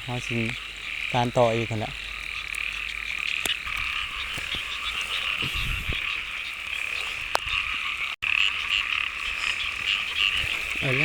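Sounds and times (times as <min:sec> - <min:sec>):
frogs croaking in chorus: 0:00.0 - 0:11.0.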